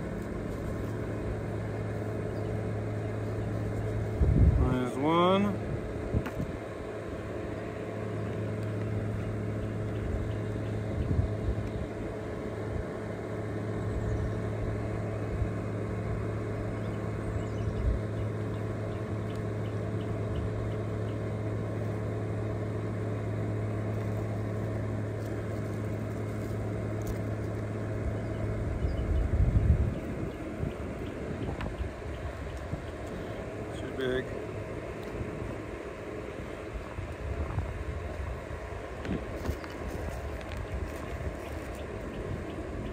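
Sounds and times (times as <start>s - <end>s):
low mechanical hum: 0.0s - 42.9s.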